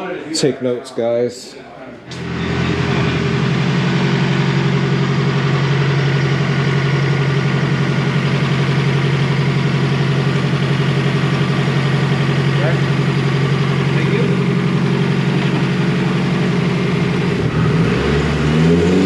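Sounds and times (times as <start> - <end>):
car engine idling: 2.1 - 19.0.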